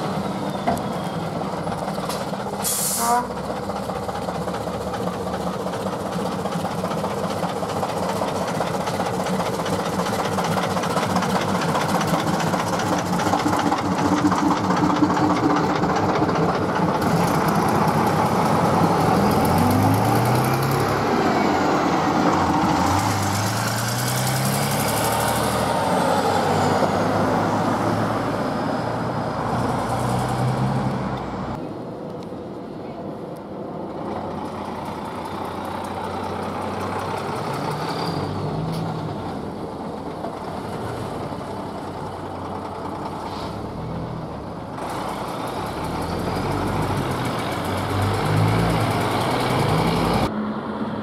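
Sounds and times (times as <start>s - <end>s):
bus diesel engine running: 0.0s - 51.0s.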